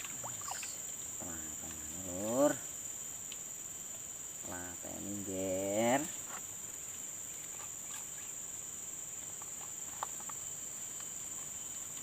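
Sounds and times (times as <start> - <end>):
high insect chorus: 0.0 - 12.0.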